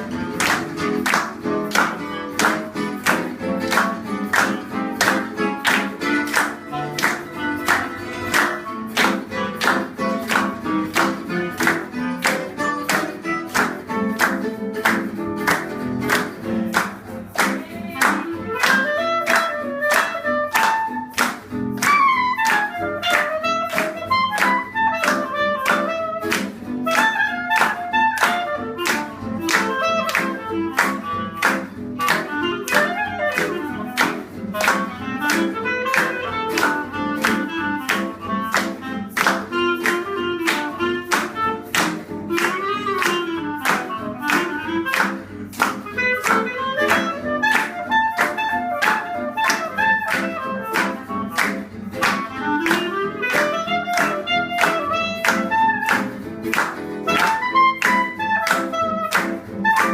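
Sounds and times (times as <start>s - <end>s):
strummed guitar rhythm: 0.0s - 59.9s.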